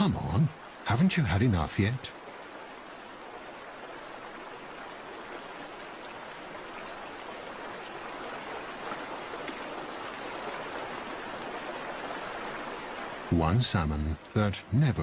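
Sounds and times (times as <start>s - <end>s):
stream running over gravel: 0.0s - 15.0s.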